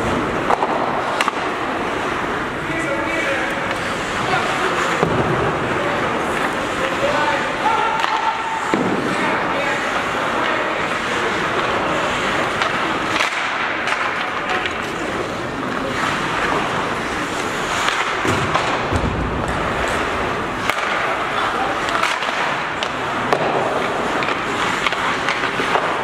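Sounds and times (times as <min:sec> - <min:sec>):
hockey sticks clacking: 0:00.0 - 0:26.0
skates scraping ice: 0:00.0 - 0:26.0.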